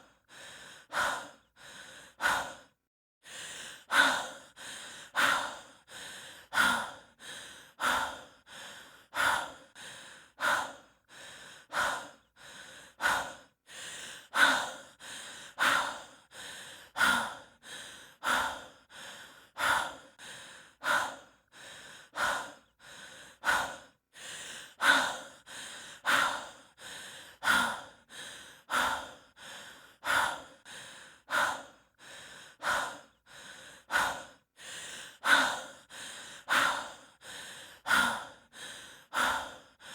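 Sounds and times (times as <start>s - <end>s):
person breathing heavily: 0.0s - 39.9s.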